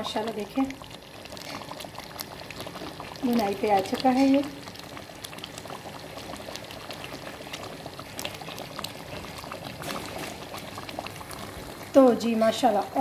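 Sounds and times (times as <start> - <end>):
curry bubbling and popping: 0.0 - 13.0.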